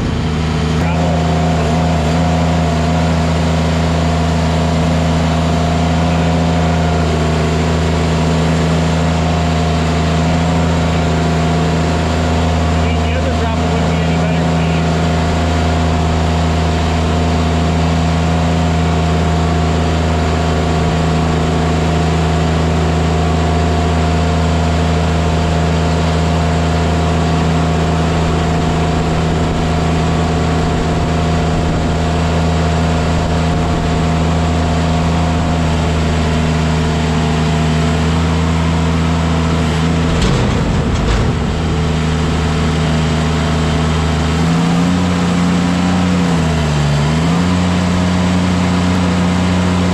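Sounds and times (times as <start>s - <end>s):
heavy equipment engine running: 0.0s - 49.9s.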